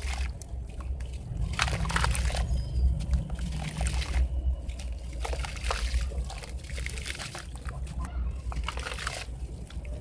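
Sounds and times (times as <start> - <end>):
crumbs splashing into water: 0.0 - 10.0
steady low rumble: 0.0 - 10.0.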